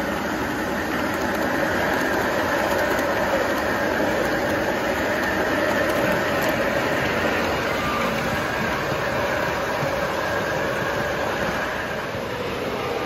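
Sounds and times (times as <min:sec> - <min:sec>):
model train wheels rumbling on rails: 0:00.0 - 0:13.0.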